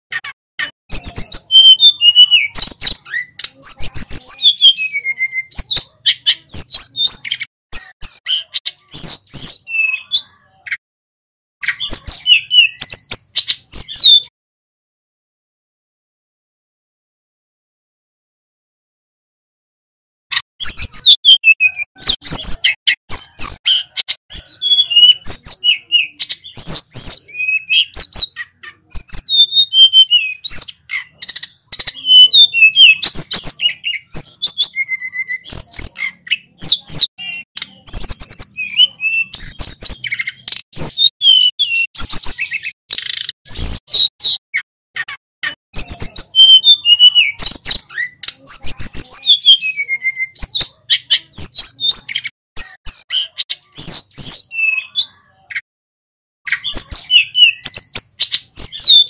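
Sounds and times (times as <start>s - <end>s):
bird singing whistled phrases: 0.2s - 10.8s, 11.6s - 14.3s, 20.6s - 44.4s, 45.0s - 55.6s, 56.5s - 59.0s.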